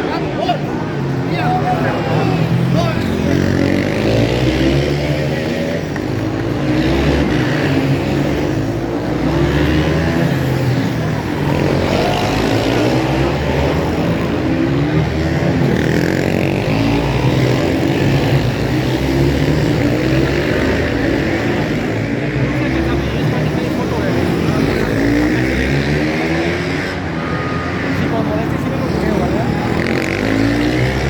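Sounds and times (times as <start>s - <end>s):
racing motorcycles revving: 0.0s - 31.0s.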